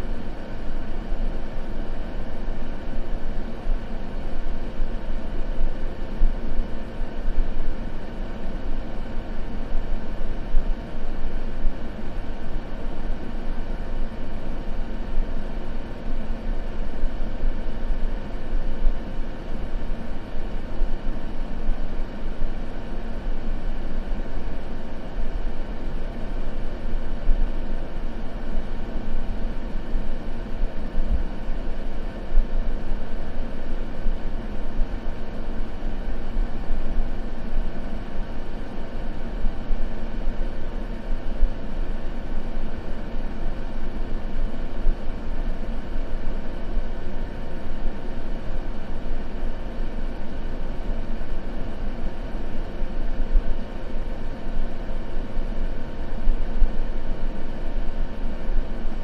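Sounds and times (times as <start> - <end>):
faint even hum: 0.0 - 59.0
low noise ambience: 0.0 - 59.0.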